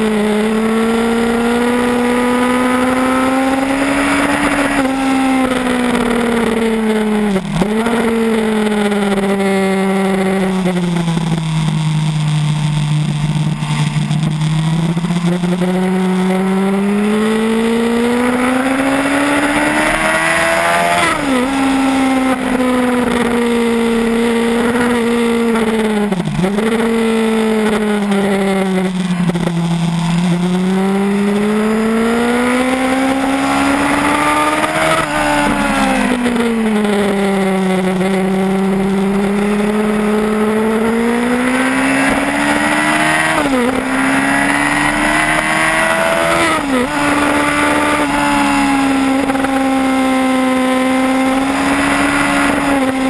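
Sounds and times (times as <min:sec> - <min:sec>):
motorcycle engine running hard: 0:00.0 - 0:53.0.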